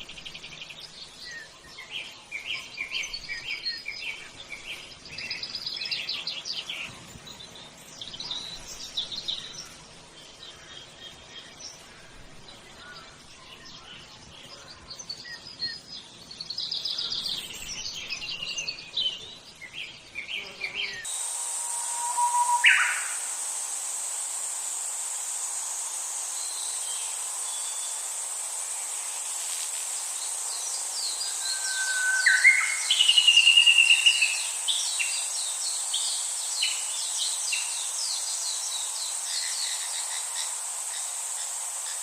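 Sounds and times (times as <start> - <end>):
small birds chirping and trilling: 0.0 - 21.1, 26.3 - 42.0.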